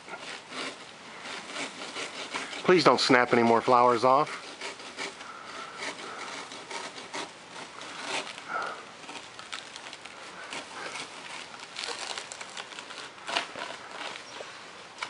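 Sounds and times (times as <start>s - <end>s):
dry palm fronds crackling: 0.0s - 15.0s.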